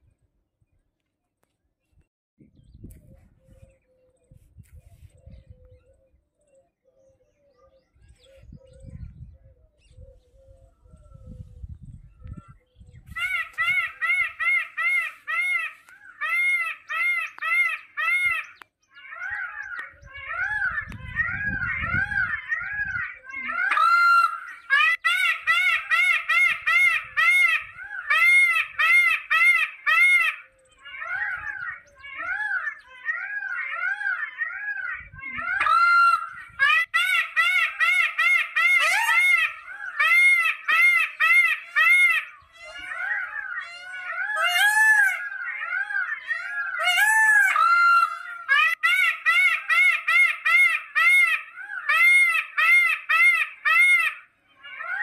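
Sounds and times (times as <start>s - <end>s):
peacock calling: 3.1s - 55.0s.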